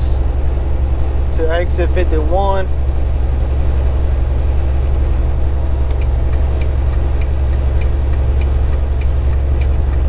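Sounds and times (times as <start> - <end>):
road noise: 0.0 - 10.0
truck engine drone: 0.0 - 10.0.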